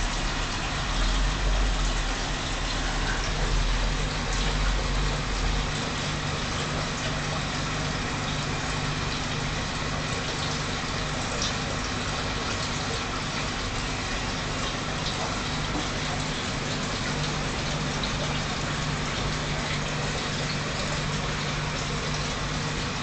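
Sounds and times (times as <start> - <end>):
water rushing in aquarium: 0.0 - 23.0.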